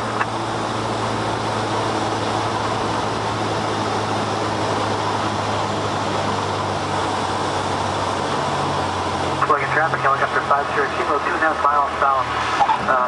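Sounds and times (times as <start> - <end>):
aircraft engine droning in cabin: 0.0 - 13.0
broad rushing noise: 0.0 - 13.0.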